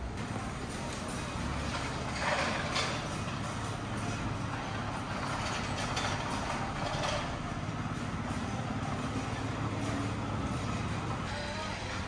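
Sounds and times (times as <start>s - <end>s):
heavy vehicle engine running: 0.0s - 12.0s
street traffic: 0.0s - 12.0s.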